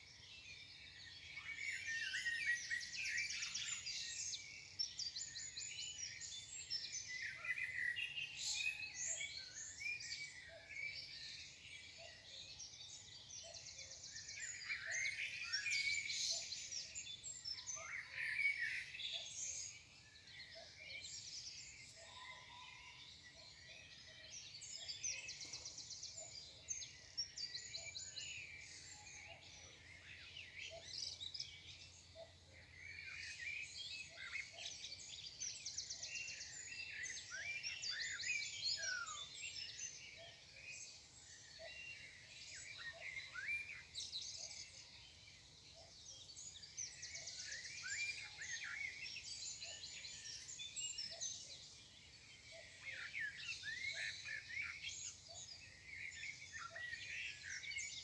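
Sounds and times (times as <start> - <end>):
songbirds chorus: 0.0 - 58.0.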